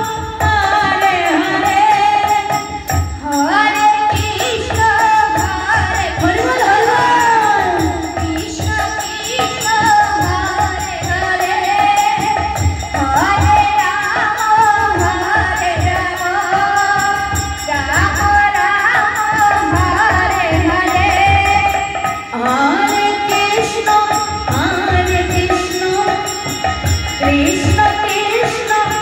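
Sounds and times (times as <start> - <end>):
steady drum beat: 0.0 - 29.0
woman singing: 0.0 - 29.0.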